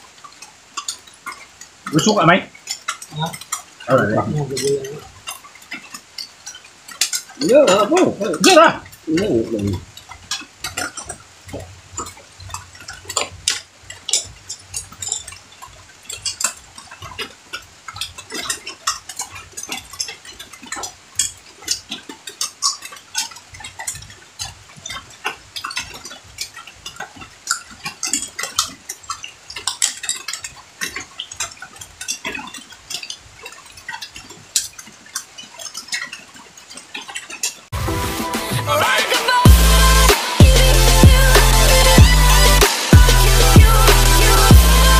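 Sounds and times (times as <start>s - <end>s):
eating noises: 0.0s - 37.8s.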